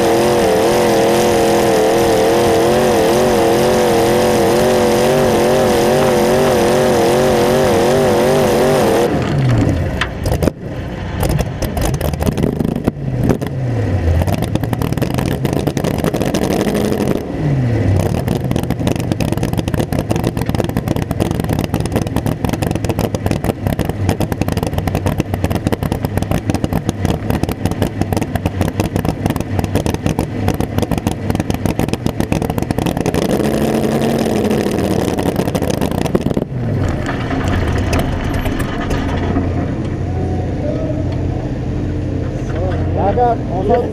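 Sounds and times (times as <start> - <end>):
small engine revving and idling: 0.0 - 40.0.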